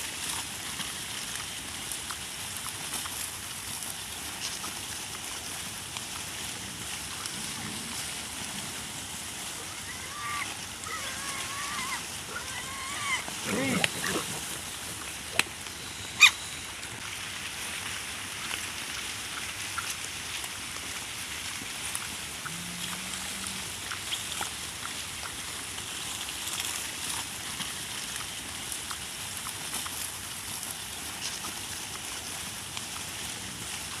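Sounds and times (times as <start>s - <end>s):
outdoor background rush: 0.0s - 34.0s.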